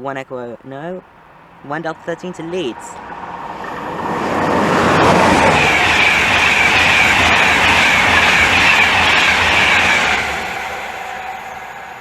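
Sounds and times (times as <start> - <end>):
train wheels rushing on rails: 0.8 - 12.0.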